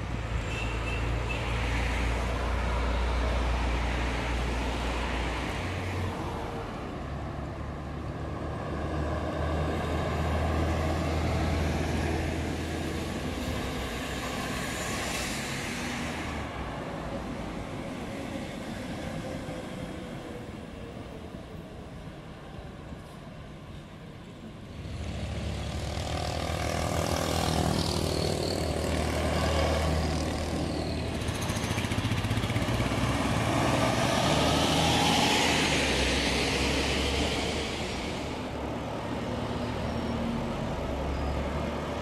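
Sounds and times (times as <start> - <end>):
bus engine hum: 0.0 - 42.0
tyre rush of passing vehicles: 0.0 - 42.0.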